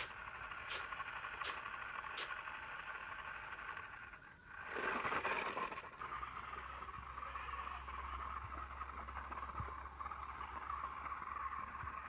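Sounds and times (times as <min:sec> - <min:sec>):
small electric motors running: 0:00.0 - 0:12.0
wheels crawling over stones: 0:00.0 - 0:12.0.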